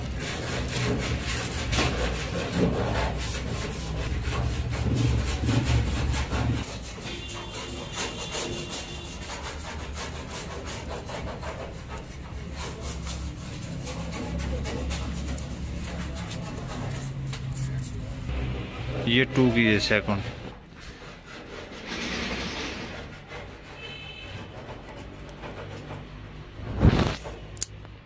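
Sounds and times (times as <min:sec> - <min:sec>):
scraping and rubbing: 0:00.0 - 0:27.8.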